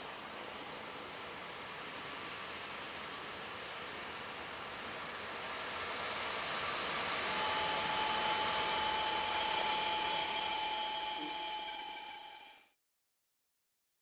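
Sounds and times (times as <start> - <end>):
train running: 0.0 - 12.7.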